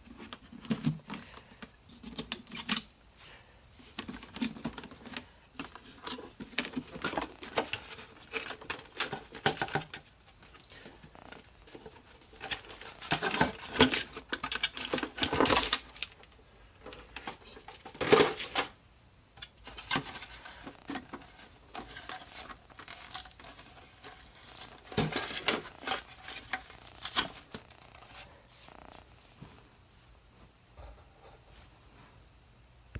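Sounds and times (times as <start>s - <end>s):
plastic parts clicking and knocking: 0.0s - 2.9s, 3.9s - 18.8s, 19.4s - 28.2s.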